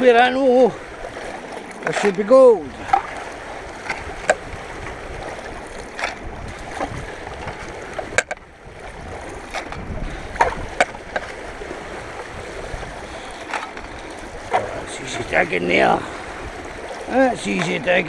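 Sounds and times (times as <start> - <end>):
running stream: 0.0 - 18.0.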